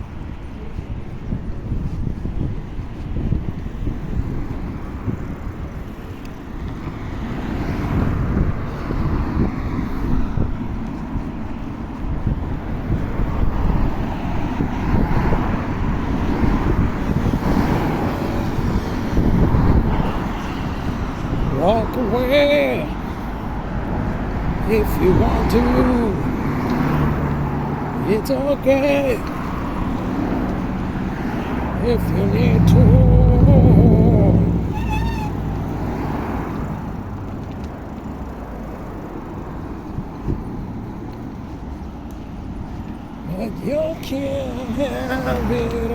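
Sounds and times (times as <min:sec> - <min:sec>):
road traffic noise: 0:00.0 - 0:45.9
wind buffeting microphone: 0:00.0 - 0:45.9.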